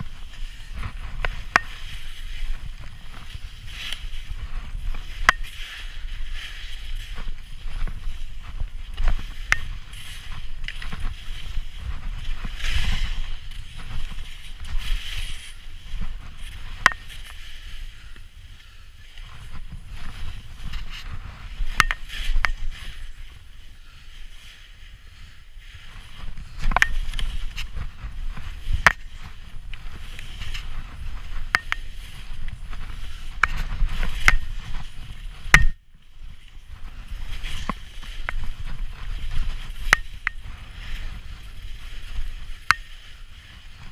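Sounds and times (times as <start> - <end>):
skis scraping over snow: 0.0 - 43.9
wind rumble on microphone: 0.0 - 43.9.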